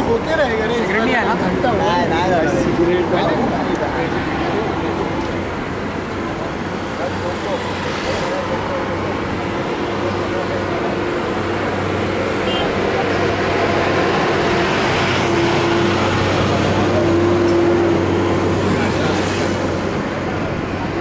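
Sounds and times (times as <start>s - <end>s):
motor traffic drone: 0.0s - 21.0s
people talking: 0.0s - 21.0s.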